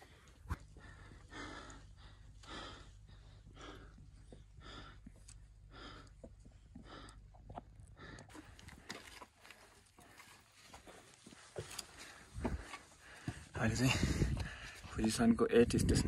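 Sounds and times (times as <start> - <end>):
person breathing hard: 0.0 - 14.9.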